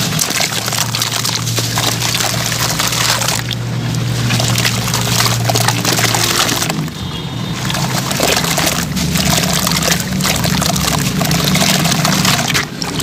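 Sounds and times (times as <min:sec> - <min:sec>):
water sloshing and dribbling: 0:00.0 - 0:13.0
wet blocks crumbling and crackling: 0:00.0 - 0:13.0.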